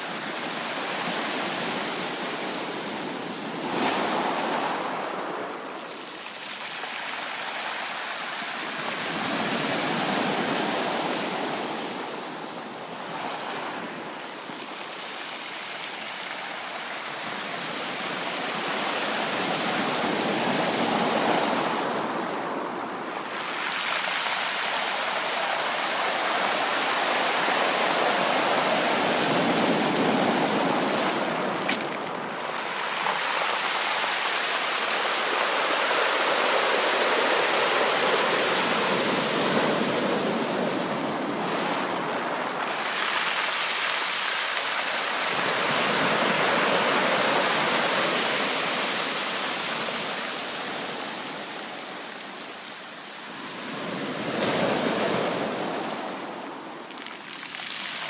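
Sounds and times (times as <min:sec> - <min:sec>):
sea waves breaking on beach: 0:00.0 - 0:52.4, 0:53.2 - 0:58.0.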